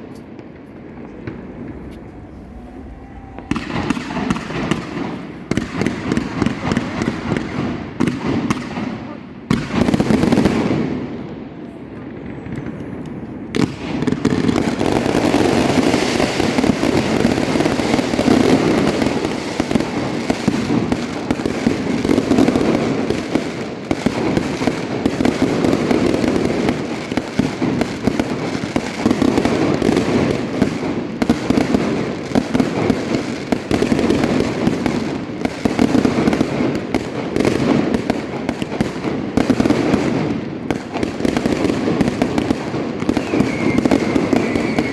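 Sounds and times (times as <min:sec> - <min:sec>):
fireworks barrage of explosions: 0:00.0 - 0:44.9.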